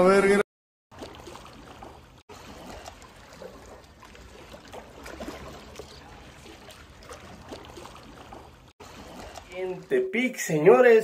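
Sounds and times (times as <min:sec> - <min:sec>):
pool water sloshing and lapping: 0:00.9 - 0:11.0.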